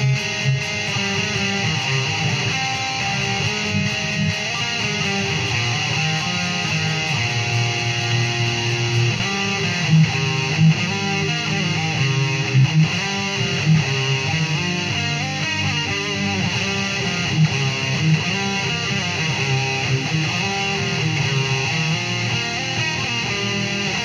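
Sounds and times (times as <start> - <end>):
electric guitar fast notes: 0.0 - 24.0.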